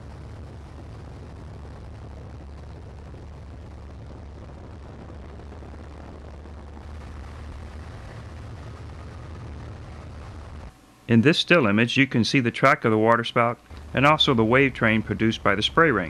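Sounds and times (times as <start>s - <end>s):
aircraft engine droning: 0.0s - 16.0s.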